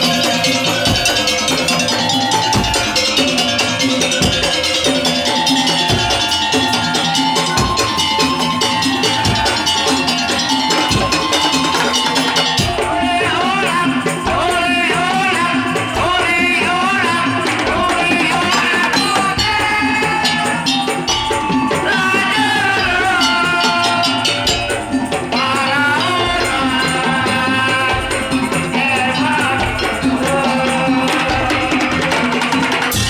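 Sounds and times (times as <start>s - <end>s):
drums and rattling percussion: 0.0s - 33.0s
held melodic notes: 0.0s - 33.0s.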